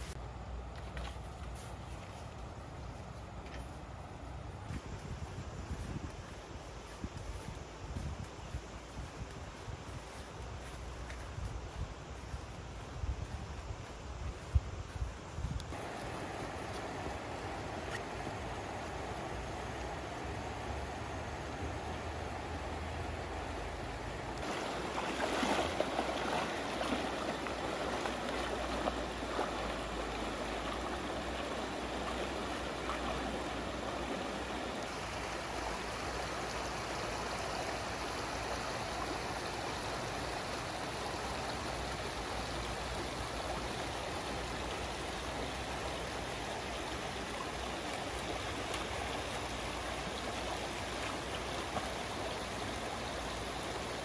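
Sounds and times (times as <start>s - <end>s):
river water rippling: 0.0s - 54.0s.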